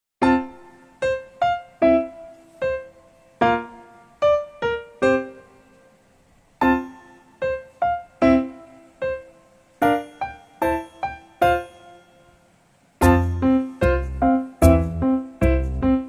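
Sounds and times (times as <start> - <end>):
piano melody: 0.2 - 16.0.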